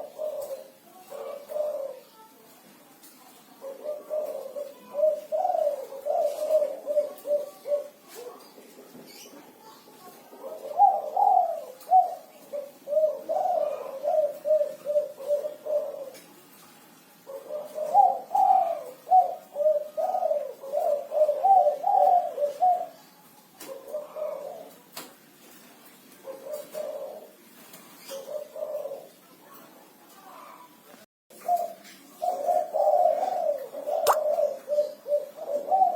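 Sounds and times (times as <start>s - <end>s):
dove cooing: 0.0s - 2.3s, 3.3s - 16.4s, 17.2s - 29.3s, 31.3s - 35.9s.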